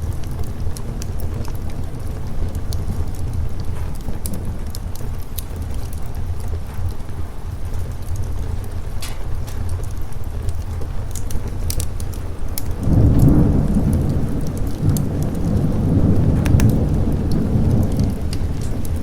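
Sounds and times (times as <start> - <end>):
sharp crackles: 0.0 - 19.0
steady rain: 0.0 - 19.0
thunder rumbling: 0.0 - 19.0.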